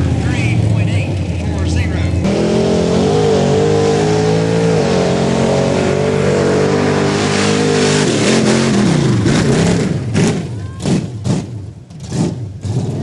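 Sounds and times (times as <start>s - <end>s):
truck engine at high revs: 0.0s - 13.0s.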